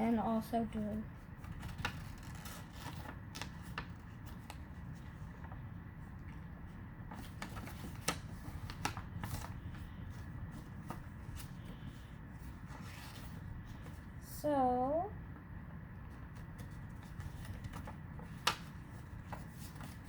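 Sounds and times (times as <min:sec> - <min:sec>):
paper rustling and crackling: 0:01.1 - 0:14.1, 0:16.0 - 0:20.0.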